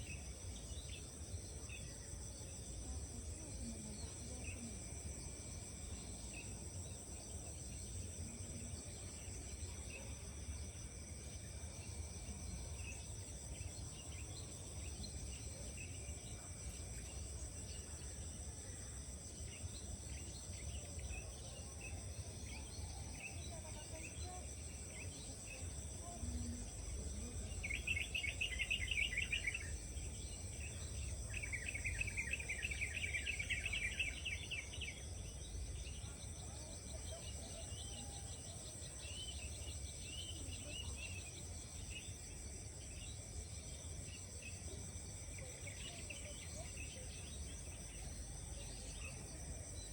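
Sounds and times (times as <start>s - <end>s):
insects and crickets droning: 0.0s - 49.9s.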